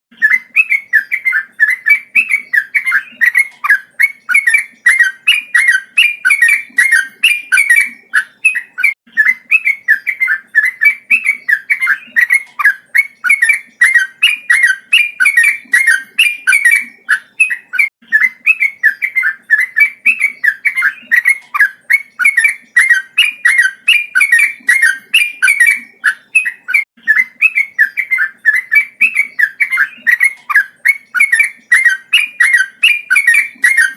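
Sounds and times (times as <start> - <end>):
bird singing rapid chattering phrases: 0.1 - 33.9.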